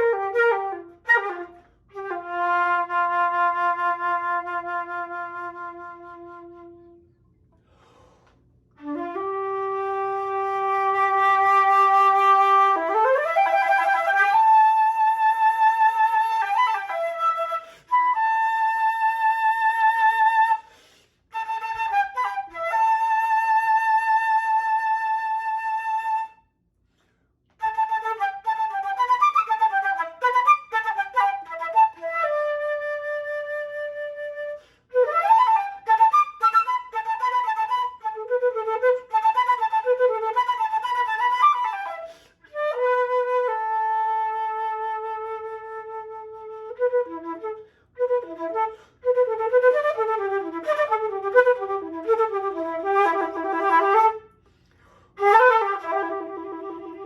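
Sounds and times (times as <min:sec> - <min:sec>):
solo flute playing: 0:00.0 - 0:07.2, 0:08.7 - 0:26.5, 0:27.6 - 0:57.0.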